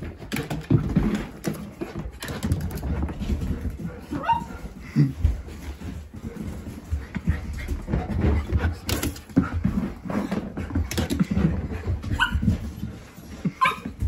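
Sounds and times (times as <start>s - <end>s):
rustling and knocks from hands: 0.0s - 14.0s.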